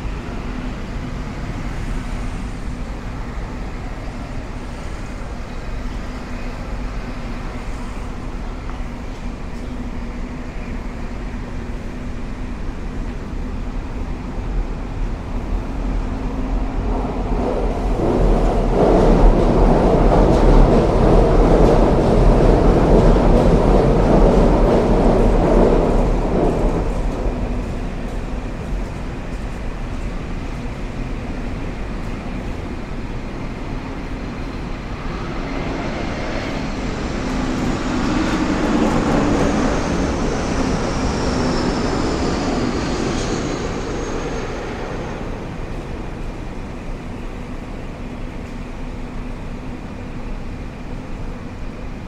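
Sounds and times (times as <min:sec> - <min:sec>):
urban rumble: 0:00.0 - 0:52.0.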